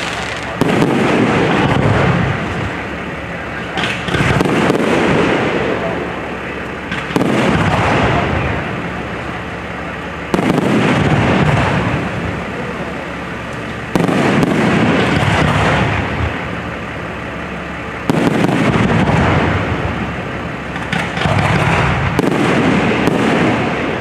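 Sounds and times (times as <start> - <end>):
firework booms: 0.0 - 6.3, 6.9 - 9.0, 10.3 - 12.8, 13.9 - 16.5, 18.1 - 24.0
firework crackles: 0.0 - 24.0
rumbling echo: 0.0 - 24.0.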